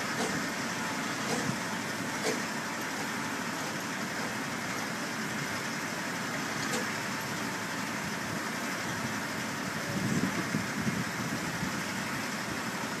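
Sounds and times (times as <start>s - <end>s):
crane engine idling: 0.0s - 13.0s.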